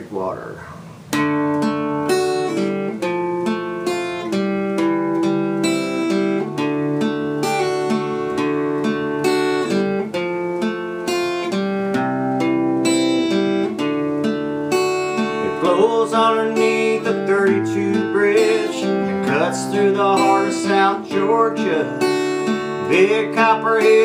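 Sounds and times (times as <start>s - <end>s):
acoustic guitar strumming chords: 0.6s - 24.0s.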